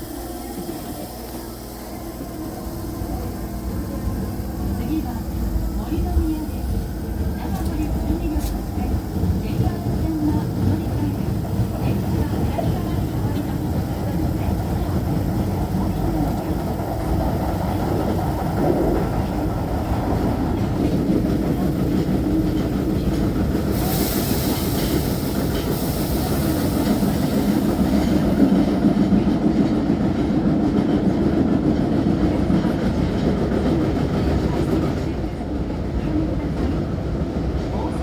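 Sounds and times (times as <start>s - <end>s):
wheels rumbling on rail: 0.0s - 38.0s
clickety-clack of wheels: 6.1s - 37.7s.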